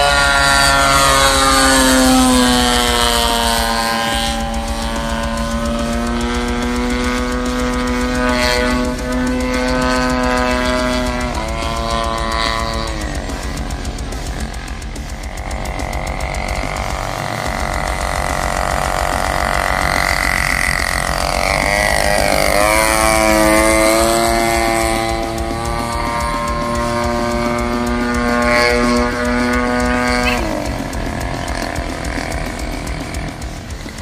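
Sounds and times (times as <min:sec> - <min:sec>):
model plane engine droning: 0:00.0 - 0:34.0.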